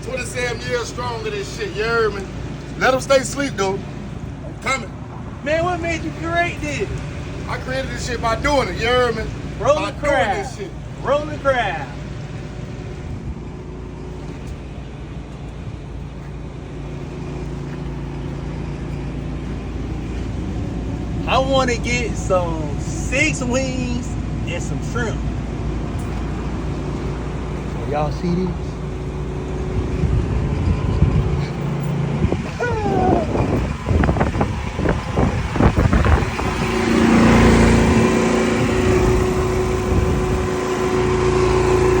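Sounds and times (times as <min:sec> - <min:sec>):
engine drone with low rumble: 0:00.0 - 0:42.0.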